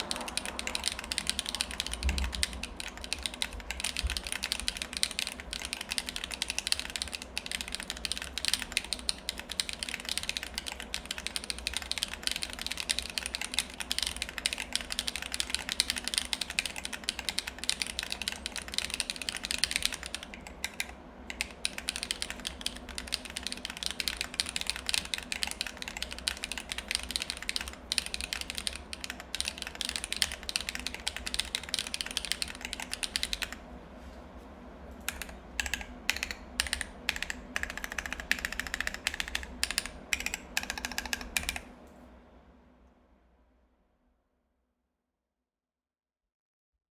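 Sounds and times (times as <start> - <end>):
mechanical keyboard typing: 0.0 - 33.7, 35.0 - 41.7.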